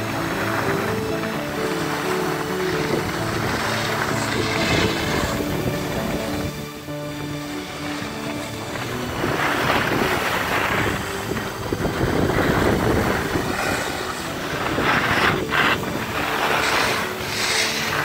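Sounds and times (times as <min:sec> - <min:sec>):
skis scraping over snow: 0:00.0 - 0:18.0
wind on microphone: 0:00.0 - 0:18.0.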